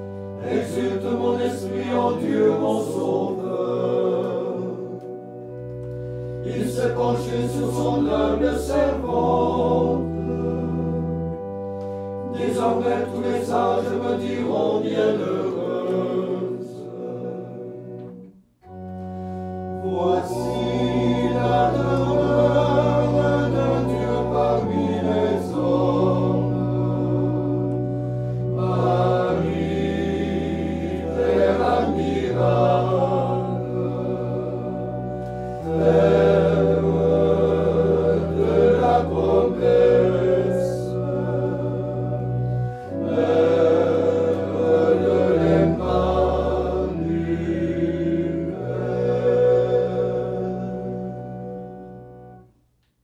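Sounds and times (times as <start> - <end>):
men's choir singing a hymn: 0.0 - 52.4
long held bass notes: 0.0 - 52.5.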